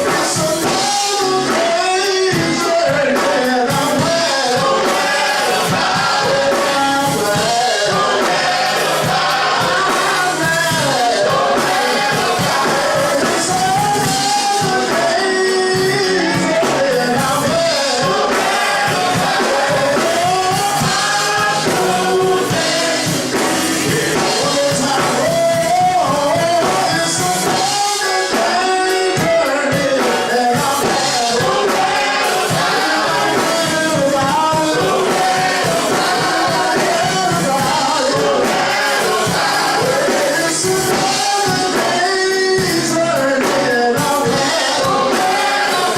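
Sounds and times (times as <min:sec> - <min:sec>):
choir singing gospel music: 0:00.0 - 0:45.9.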